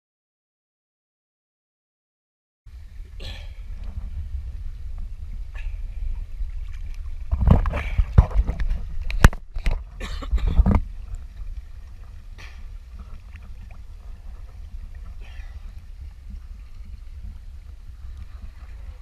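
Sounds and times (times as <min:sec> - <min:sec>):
ship machinery low rumble: 0:02.7 - 0:19.0.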